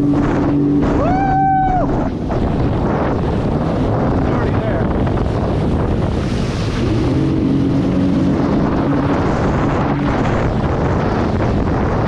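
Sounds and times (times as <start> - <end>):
watercraft engine running: 0.0 - 12.0
wind buffeting microphone: 0.0 - 12.0.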